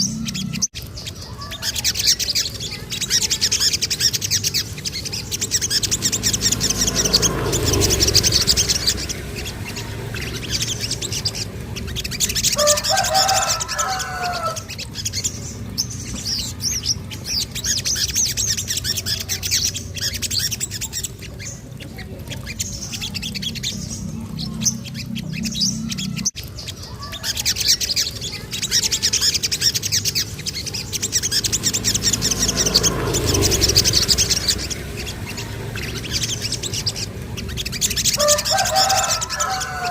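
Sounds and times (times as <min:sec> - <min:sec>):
low warbling call: 0:00.0 - 0:15.3, 0:22.4 - 0:39.9
songbird chirping trills: 0:00.0 - 0:39.9.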